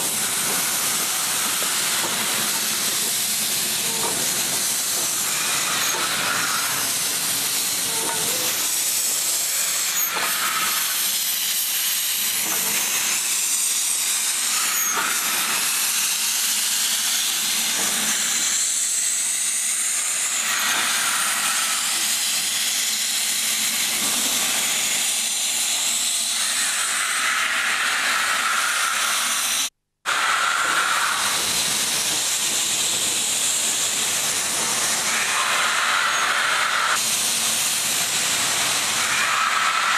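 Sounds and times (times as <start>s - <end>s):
steam locomotive hissing: 0.0s - 39.9s.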